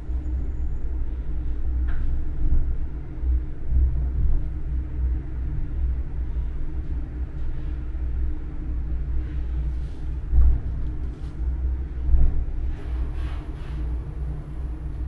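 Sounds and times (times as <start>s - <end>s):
funicular car rumbling on track: 0.0s - 15.0s.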